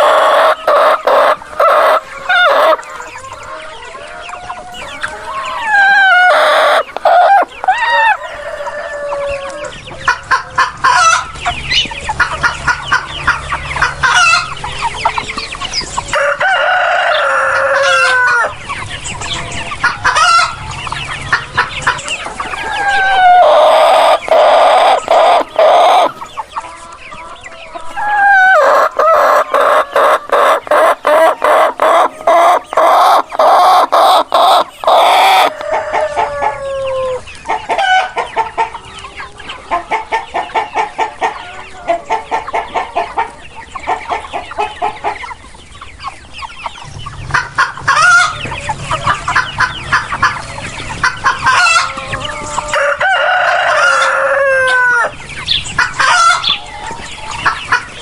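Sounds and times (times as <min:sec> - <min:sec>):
roosters crowing: 0:00.0 - 0:45.5, 0:46.5 - 0:58.0
chickens clucking and cackling: 0:00.0 - 0:58.0.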